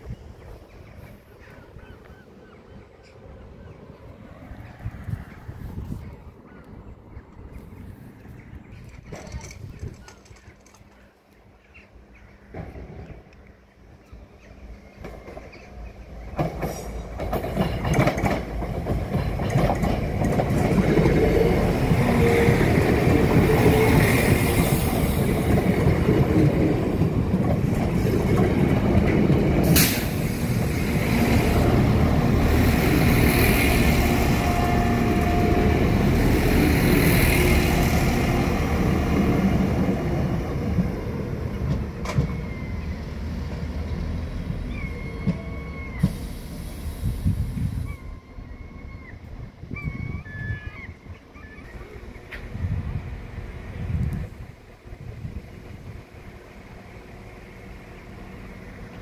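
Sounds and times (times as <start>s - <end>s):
train rumbling past: 0.0s - 10.7s, 11.9s - 59.0s.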